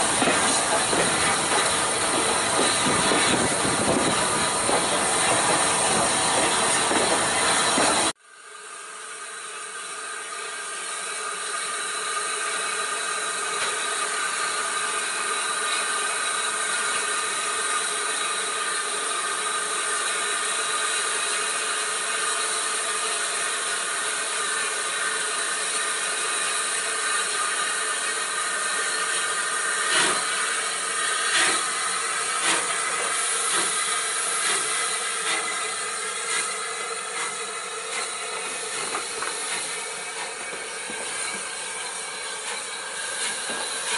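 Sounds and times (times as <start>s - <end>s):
steam hissing from locomotive: 0.0s - 43.9s
steam locomotive exhaust beats: 0.0s - 43.9s.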